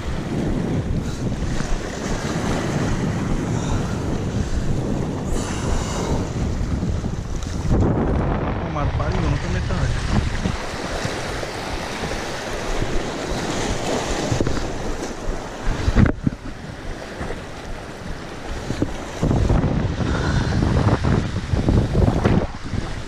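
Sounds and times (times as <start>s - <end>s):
waves foaming over rocks: 0.0s - 23.0s
wind buffeting microphone: 0.0s - 23.0s.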